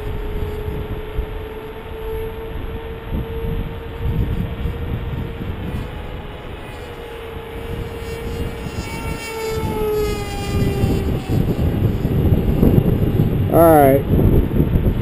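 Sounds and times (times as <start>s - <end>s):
electric motor and propeller whine: 0.0s - 15.0s
low rumbling noise: 0.0s - 15.0s.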